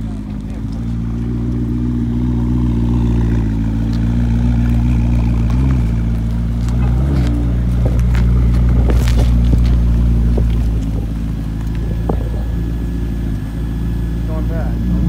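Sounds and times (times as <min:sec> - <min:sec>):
car engine idling: 0:00.0 - 0:15.0
engine revving: 0:00.0 - 0:15.0.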